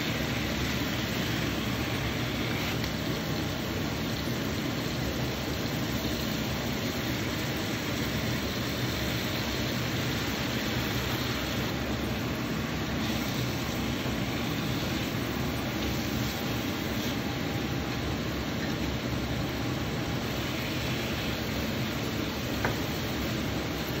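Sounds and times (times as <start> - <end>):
chicken frying in a wok: 0.0 - 24.0.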